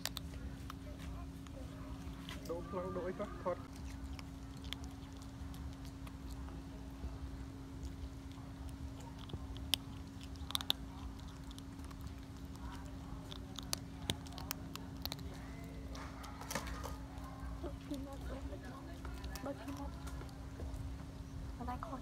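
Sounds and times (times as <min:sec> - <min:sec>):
kitten crunching dry kibble: 0:00.0 - 0:21.9
steady low hum: 0:00.0 - 0:22.0.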